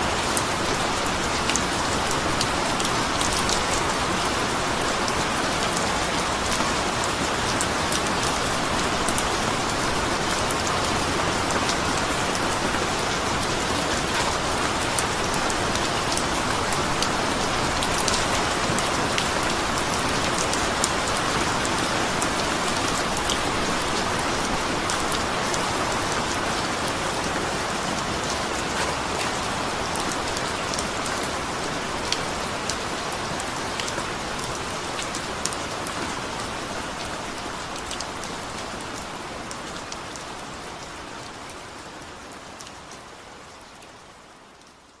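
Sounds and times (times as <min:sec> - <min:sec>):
rain falling: 0:00.0 - 0:45.0
raindrops pattering on a surface: 0:00.1 - 0:45.0.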